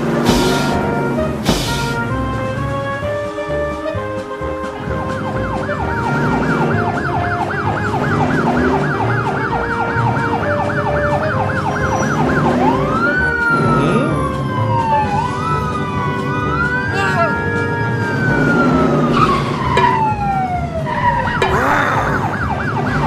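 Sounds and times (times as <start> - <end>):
emergency vehicle siren: 0.0 - 23.0.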